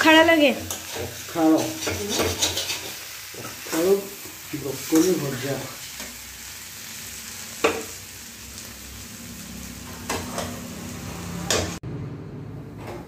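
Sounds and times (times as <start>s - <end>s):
vegetables sizzling in a pan: 0.0s - 11.8s.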